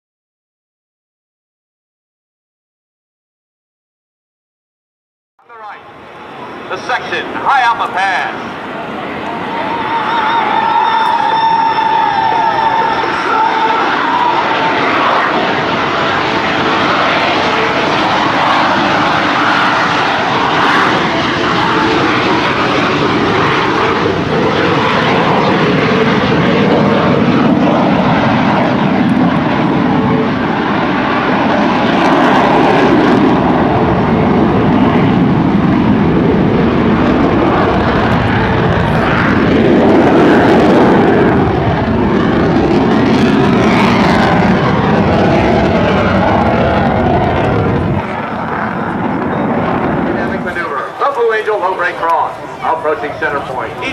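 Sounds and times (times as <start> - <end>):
jets flying past: 5.5 - 53.9.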